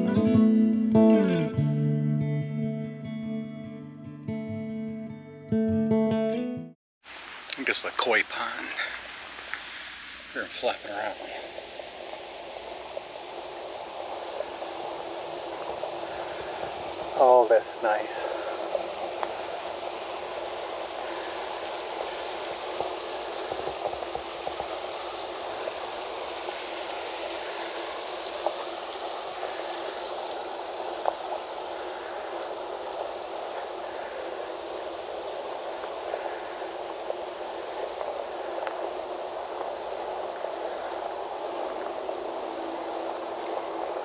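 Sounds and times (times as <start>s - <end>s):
running water: 7.1s - 44.0s.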